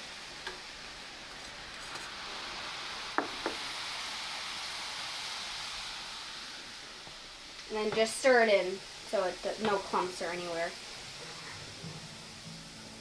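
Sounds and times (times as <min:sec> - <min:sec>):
water fizzing and hissing: 0:00.0 - 0:13.0.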